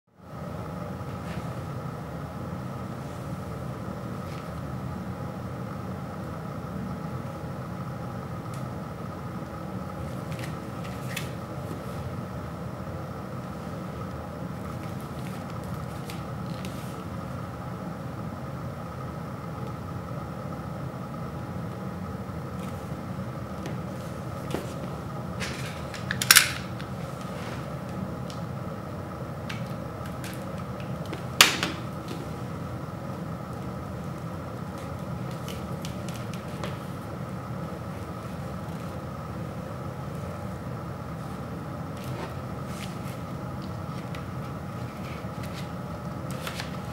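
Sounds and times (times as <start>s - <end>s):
low mechanical hum: 0.0s - 46.9s.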